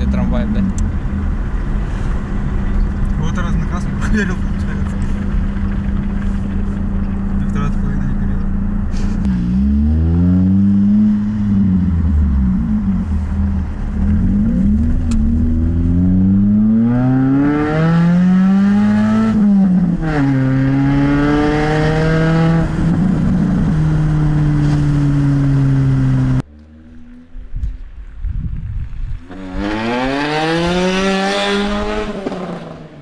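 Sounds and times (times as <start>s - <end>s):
car engine accelerating: 0.0s - 28.2s, 28.9s - 33.0s.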